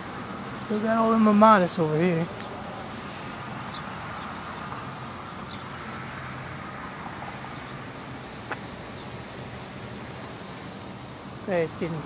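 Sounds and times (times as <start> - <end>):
high insect chorus: 0.0 - 12.0.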